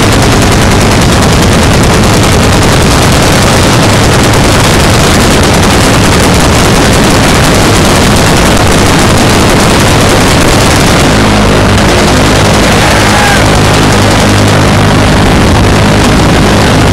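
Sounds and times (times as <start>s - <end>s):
automatic machine-gun fire: 0.0s - 16.9s
steady low hum: 0.0s - 16.9s.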